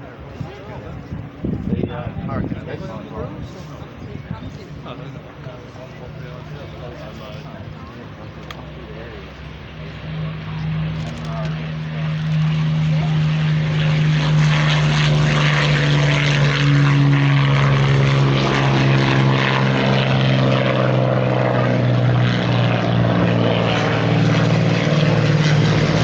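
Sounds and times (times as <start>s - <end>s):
propeller aircraft engine roaring: 0.0s - 26.0s.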